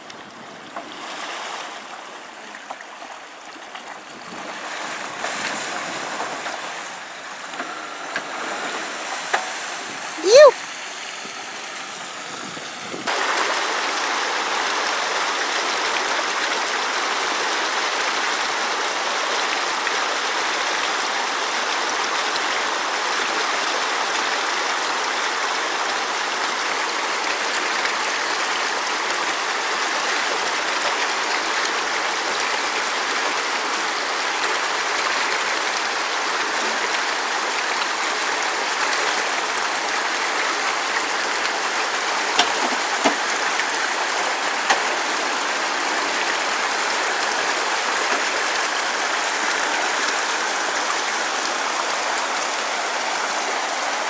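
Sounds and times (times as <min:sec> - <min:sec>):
creek water rushing over rocks: 0:00.0 - 0:54.0.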